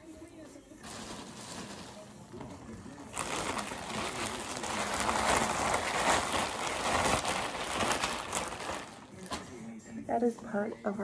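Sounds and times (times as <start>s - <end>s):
plastic bag crumpling and rustling: 0.8s - 9.7s.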